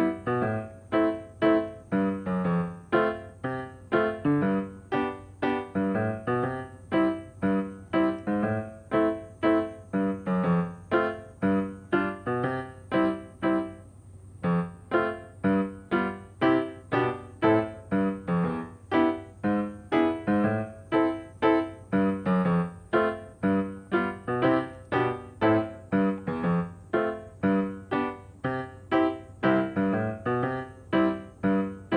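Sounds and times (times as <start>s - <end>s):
piano tune: 0.0s - 31.9s.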